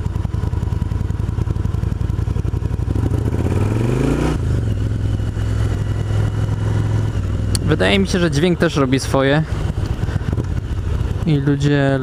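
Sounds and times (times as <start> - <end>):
motorcycle engine throbbing: 0.0 - 12.0.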